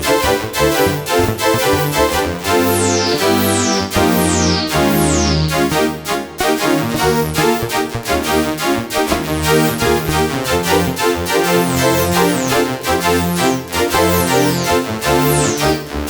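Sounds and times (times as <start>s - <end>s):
bright synthesizer notes: 0.0s - 16.0s
synthesizer bass line: 0.0s - 16.0s.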